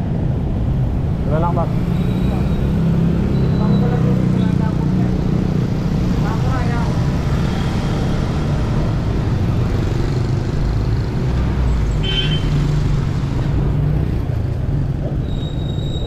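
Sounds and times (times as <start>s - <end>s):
street traffic passing: 0.0s - 16.0s.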